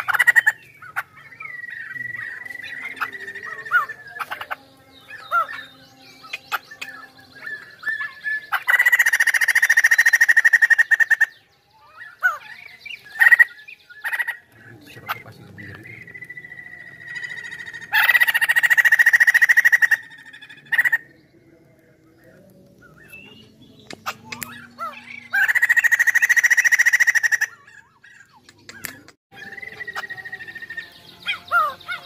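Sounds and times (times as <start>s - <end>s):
bird whistles and chirps: 0.0s - 21.2s, 22.2s - 32.0s.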